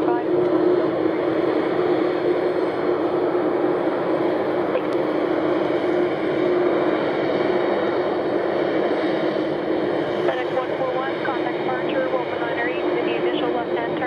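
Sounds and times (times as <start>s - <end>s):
jet engines idling: 0.0s - 14.0s.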